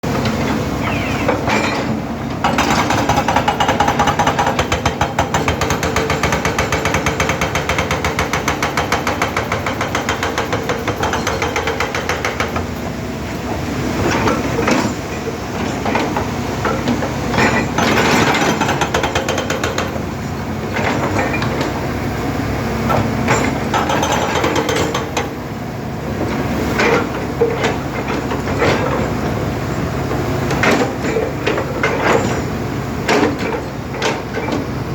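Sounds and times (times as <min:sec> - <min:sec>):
excavator diesel engine pounding: 0:00.1 - 0:34.9.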